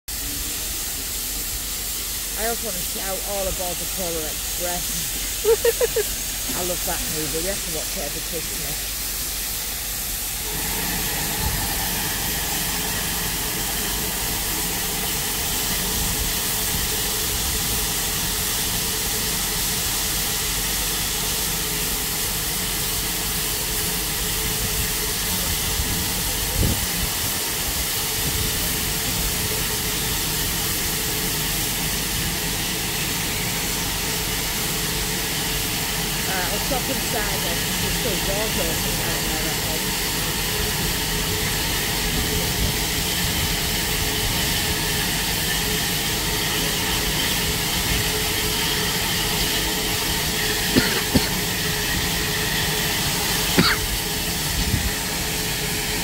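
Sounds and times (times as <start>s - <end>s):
steam hissing: 0.1s - 56.0s.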